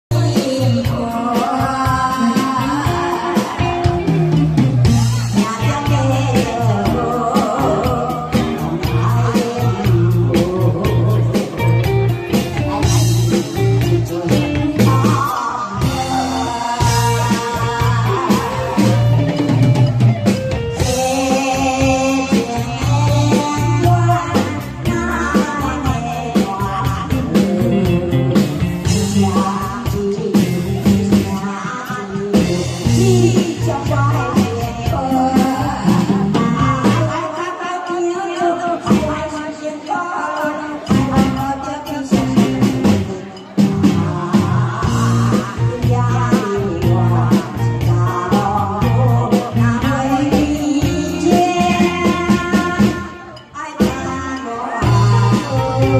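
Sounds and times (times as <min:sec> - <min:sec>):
band with electric guitar: 0:00.0 - 0:55.9
woman singing through pa: 0:00.0 - 0:55.9
steady drum beat: 0:00.1 - 0:37.2, 0:40.4 - 0:55.9.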